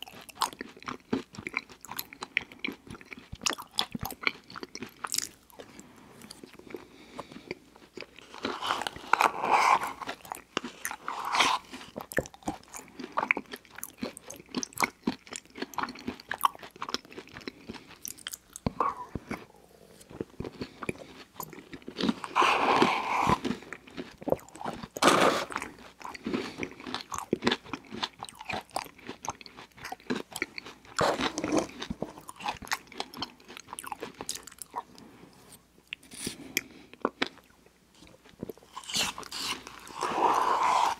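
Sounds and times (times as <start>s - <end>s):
mouth smacking and chewing: 0.0s - 35.0s, 35.8s - 40.9s.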